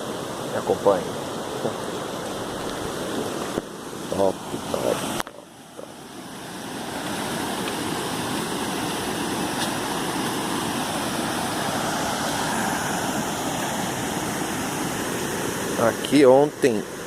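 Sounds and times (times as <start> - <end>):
waterfall and stream rushing: 0.0 - 17.0.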